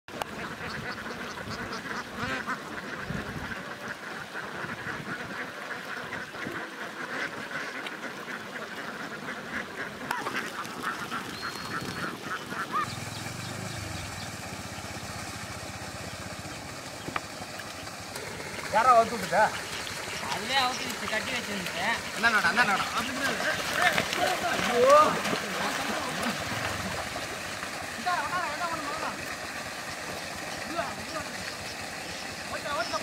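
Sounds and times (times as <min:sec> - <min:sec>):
ducks quacking: 0:00.1 - 0:33.0.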